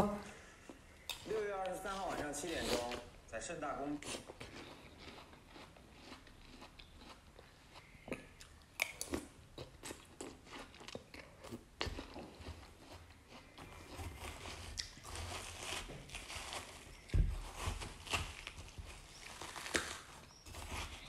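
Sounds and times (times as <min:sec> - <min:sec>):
person chewing crisp watermelon: 0:00.5 - 0:03.2, 0:04.0 - 0:21.0.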